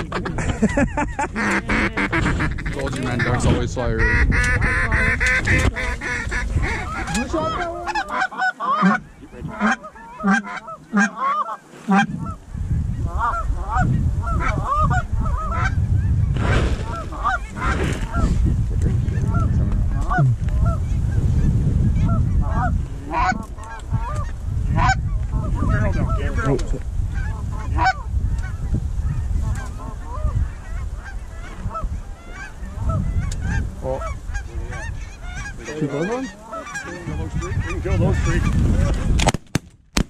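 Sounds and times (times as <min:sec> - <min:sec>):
wind rumbling on microphone: 0:00.0 - 0:39.6
geese honking: 0:01.4 - 0:12.4, 0:13.0 - 0:16.2, 0:16.8 - 0:18.3, 0:19.1 - 0:21.0, 0:22.0 - 0:26.5, 0:27.1 - 0:39.1.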